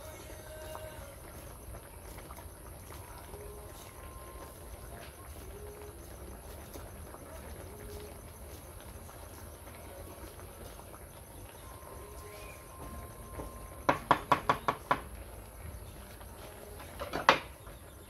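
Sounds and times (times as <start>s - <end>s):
light chirps: 0.1s - 18.0s.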